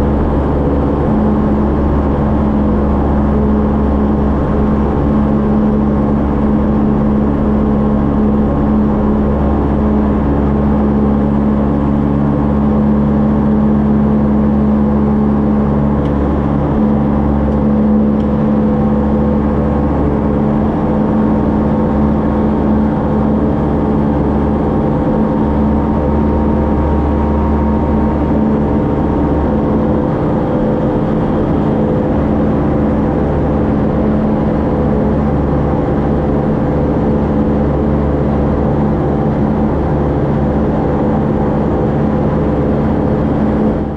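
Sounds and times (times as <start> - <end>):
light aircraft engine and propeller: 0.0 - 43.9.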